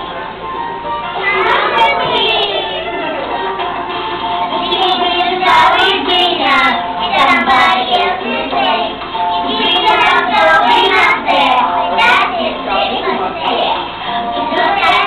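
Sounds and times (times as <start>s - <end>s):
backing music: 0.0s - 15.0s
young children singing: 1.2s - 15.0s.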